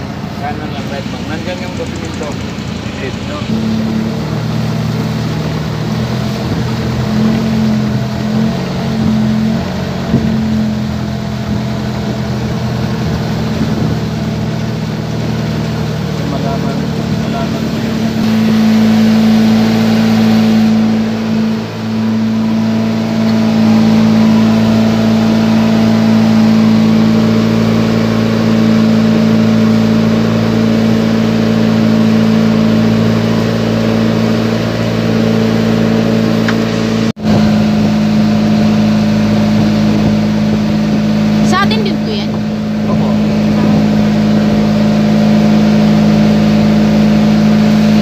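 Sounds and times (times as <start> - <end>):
motorboat engine running: 0.0 - 48.0.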